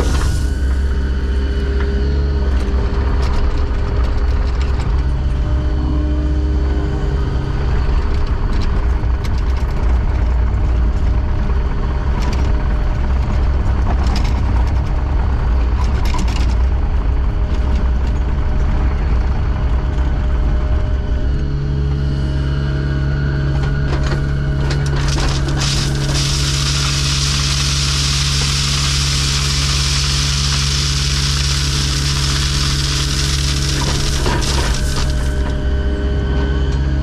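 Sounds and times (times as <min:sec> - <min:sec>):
earthmoving equipment engine: 0:00.0 - 0:37.0.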